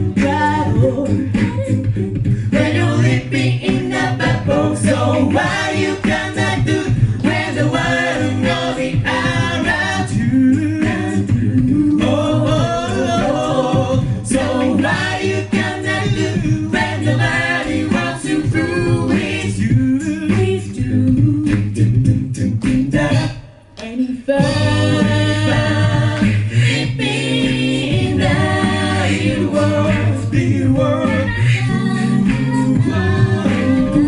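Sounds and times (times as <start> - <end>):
a cappella group singing: 0.0 - 34.0.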